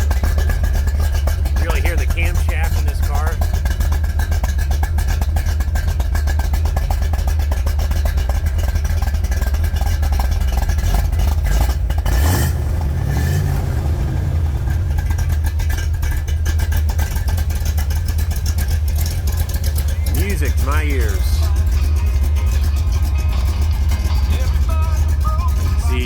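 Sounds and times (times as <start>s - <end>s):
car engine running and revving: 0.0s - 26.0s.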